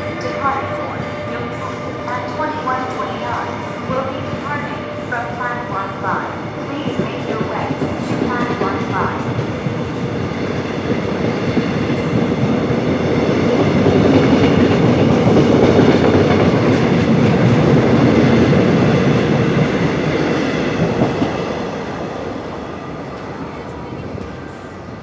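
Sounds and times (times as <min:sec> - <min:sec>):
passenger train rolling on rails: 0:00.0 - 0:25.0.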